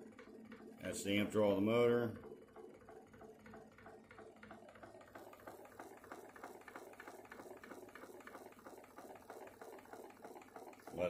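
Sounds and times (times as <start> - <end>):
magnet motor ticking: 0.0 - 11.0.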